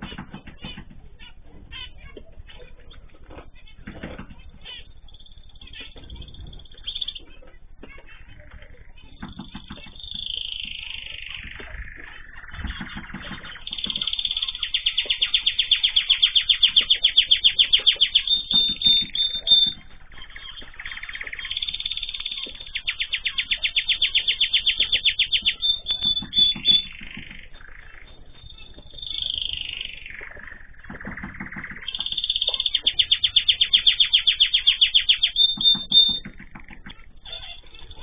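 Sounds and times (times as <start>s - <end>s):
songbirds trilling: 0.0s - 38.0s.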